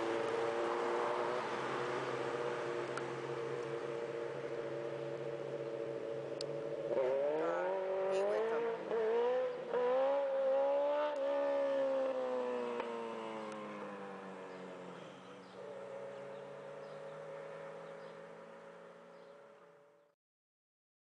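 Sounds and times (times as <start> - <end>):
motorcycle engine accelerating: 0.0 - 19.8.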